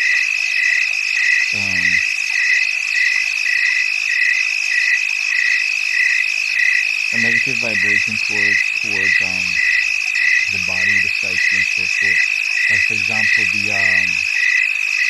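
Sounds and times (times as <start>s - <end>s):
frog chorus trilling: 0.0s - 15.0s
pulsing frog call: 1.5s - 15.0s.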